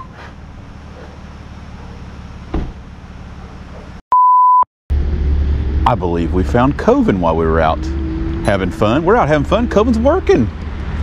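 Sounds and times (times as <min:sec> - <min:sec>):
vehicle running with road noise: 0:00.0 - 0:04.0, 0:04.9 - 0:11.0.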